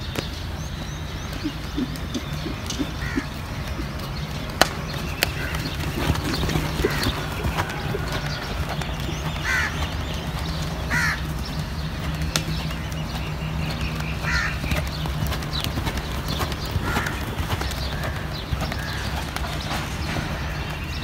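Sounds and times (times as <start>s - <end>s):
bird calling: 0.0s - 21.0s
horse hoofbeats on dirt: 0.0s - 21.0s.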